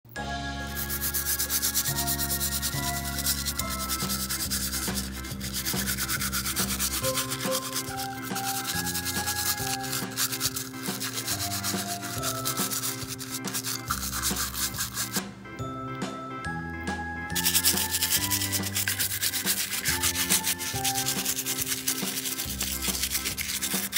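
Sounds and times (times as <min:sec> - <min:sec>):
background music with bass: 0:00.1 - 0:23.9
scrubber rubbing toy car: 0:00.8 - 0:15.2, 0:17.4 - 0:23.9.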